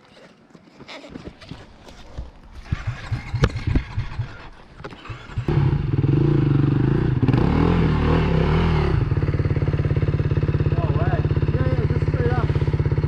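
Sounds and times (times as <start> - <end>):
dirt bike engine: 1.4 - 13.0.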